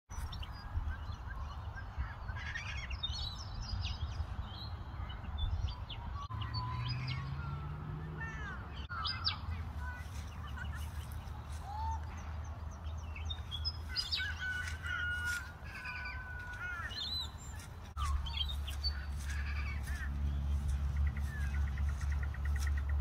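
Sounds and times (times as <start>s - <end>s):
birds chirping and whistling: 0.1s - 23.0s.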